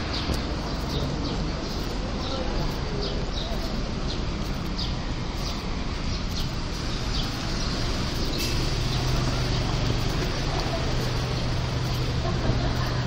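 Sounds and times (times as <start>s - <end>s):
low engine hum: 0.0s - 13.0s
passing cars and trucks: 0.0s - 13.0s.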